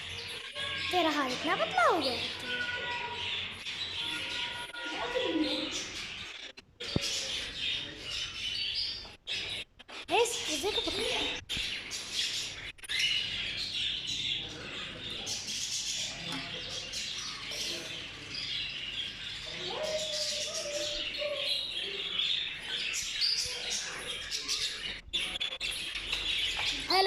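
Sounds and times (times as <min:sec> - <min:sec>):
cage birds chirping: 0:00.0 - 0:27.0.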